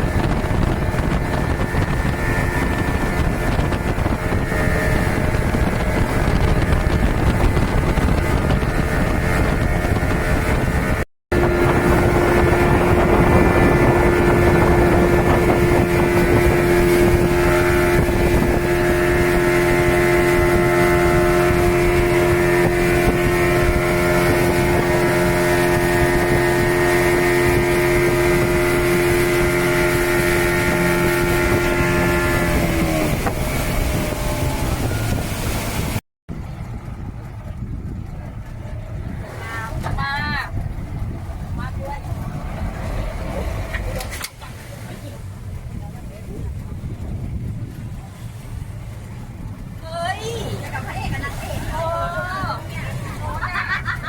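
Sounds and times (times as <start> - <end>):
speedboat engine running: 0.0 - 54.0
wind buffeting microphone: 0.0 - 54.0.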